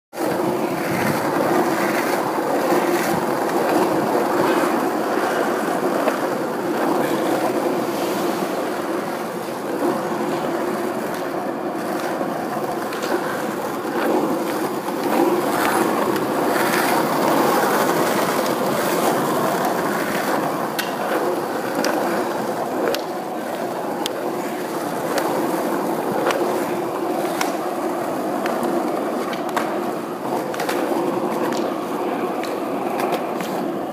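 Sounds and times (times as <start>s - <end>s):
skateboard wheels rolling on asphalt: 0.1s - 33.9s
skateboard wheels clicking over cracks: 0.2s - 33.9s.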